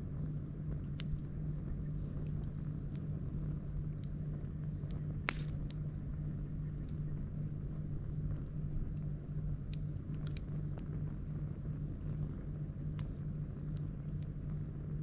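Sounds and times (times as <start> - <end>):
campfire crackling and popping: 0.0 - 15.0
steady low drone: 0.0 - 15.0.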